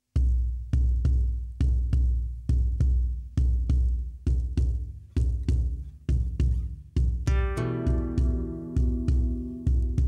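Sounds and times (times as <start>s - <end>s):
deep drum beating: 0.0s - 10.0s.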